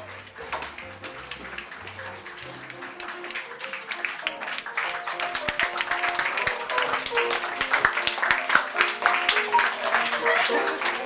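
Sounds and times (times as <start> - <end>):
audience applauding: 0.0 - 11.0
music with held notes: 0.0 - 11.0.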